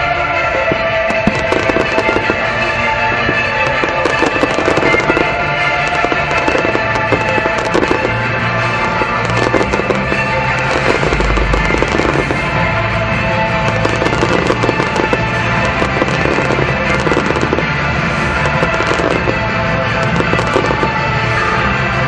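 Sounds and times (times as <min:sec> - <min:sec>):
fireworks bursting and crackling: 0:00.0 - 0:22.0
loud music: 0:00.0 - 0:22.0.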